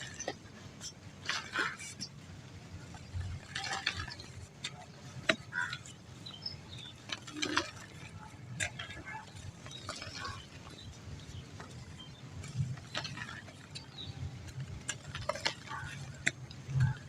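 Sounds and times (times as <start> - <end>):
dry mud crumbling and crackling: 0.0 - 17.0.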